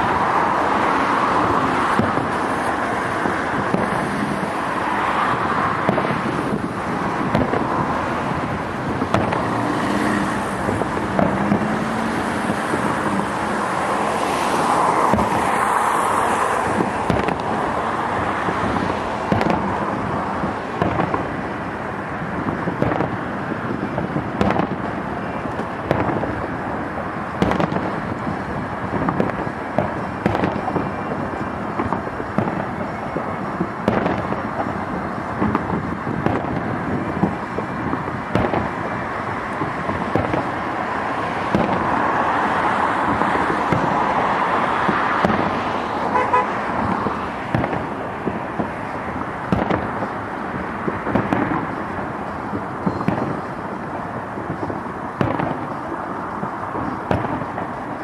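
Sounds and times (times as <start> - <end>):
fireworks bangs and booms: 0.0 - 58.0.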